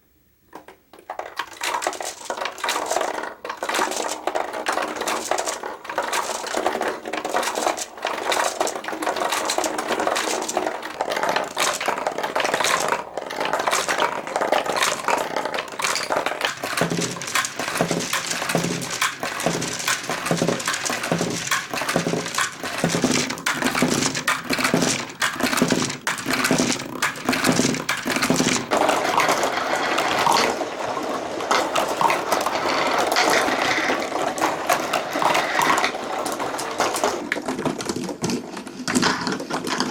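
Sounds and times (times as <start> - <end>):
marbles rolling and clacking: 0.6 - 39.9.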